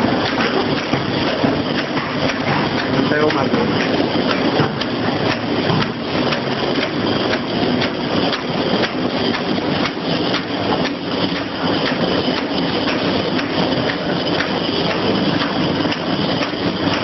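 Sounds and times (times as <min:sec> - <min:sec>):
machine motor running: 0:00.0 - 0:17.0.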